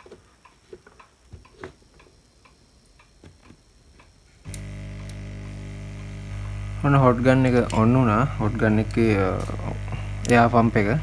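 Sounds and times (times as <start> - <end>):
electric hum of hot air station: 0.0 - 11.0
faint ticking: 0.0 - 11.0.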